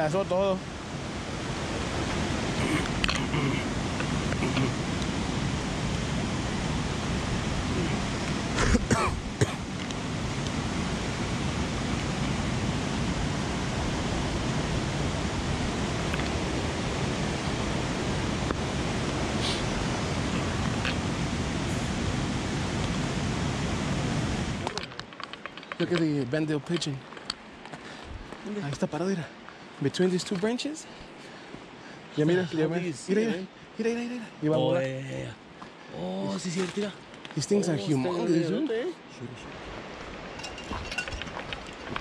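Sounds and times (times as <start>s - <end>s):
creek water rushing: 0.0s - 42.0s.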